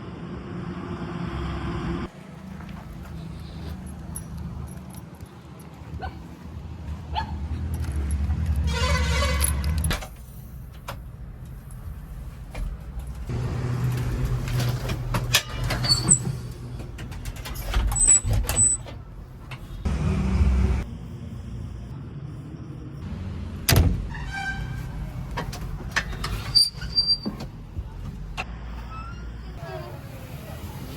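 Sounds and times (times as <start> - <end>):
diesel engine rumbling: 0.0 - 30.9.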